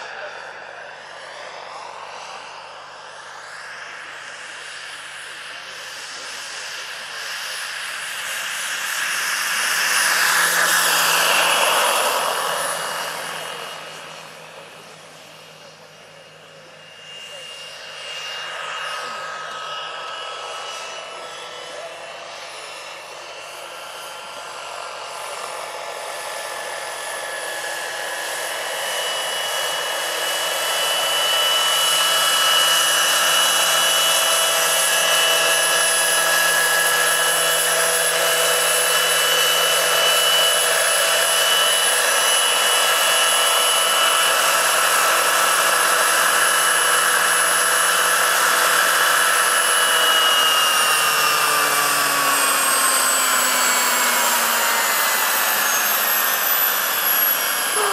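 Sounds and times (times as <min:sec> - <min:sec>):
helicopter rotor noise: 0:00.0 - 0:57.9
turbine whine: 0:00.0 - 0:57.9.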